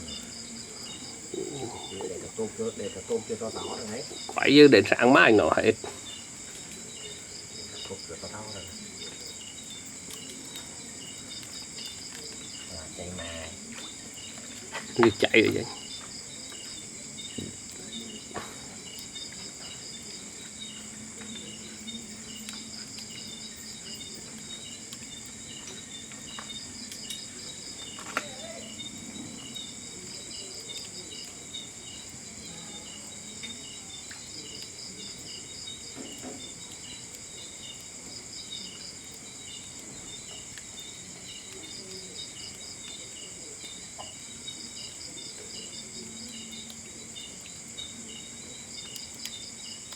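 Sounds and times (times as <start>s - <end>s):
insects trilling: 0.0s - 49.9s.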